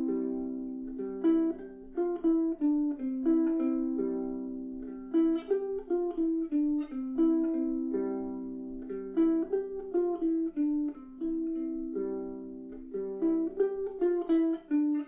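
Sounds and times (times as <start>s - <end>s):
ukulele picking a riff: 0.0s - 15.0s.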